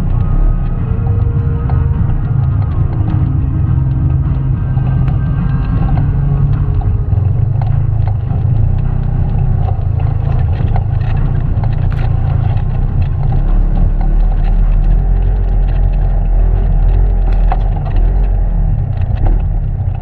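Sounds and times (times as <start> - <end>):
utility vehicle engine droning: 0.0 - 20.0
vehicle knocks and rattles: 0.1 - 20.0.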